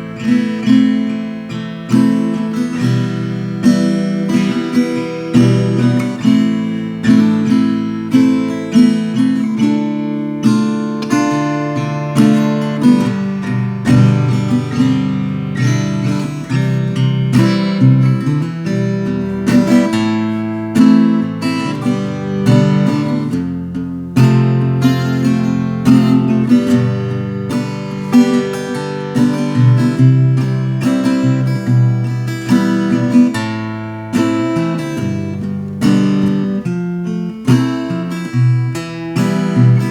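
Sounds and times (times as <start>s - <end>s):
acoustic guitar strummed and plucked: 0.0s - 39.9s.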